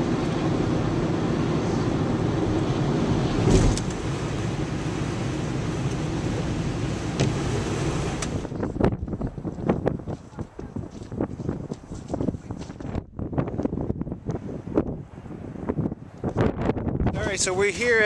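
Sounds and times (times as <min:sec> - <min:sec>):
car rumbling on the move: 0:00.0 - 0:17.2.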